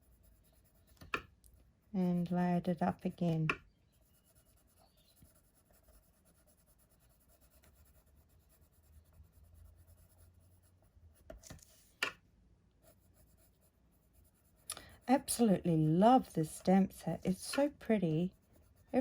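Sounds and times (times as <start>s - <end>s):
pencil scratching on paper: 0.0s - 1.2s, 2.0s - 11.9s, 12.8s - 19.0s.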